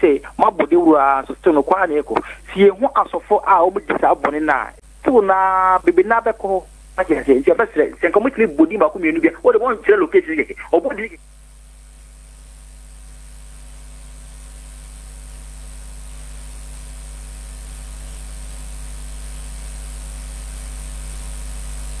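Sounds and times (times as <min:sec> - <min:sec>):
electrical mains hum with hiss: 0:00.0 - 0:22.0.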